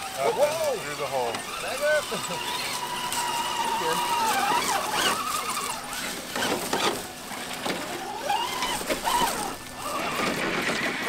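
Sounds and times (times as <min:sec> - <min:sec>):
electric motor whining: 0:00.0 - 0:11.0
tyres cracking twigs: 0:00.0 - 0:11.0.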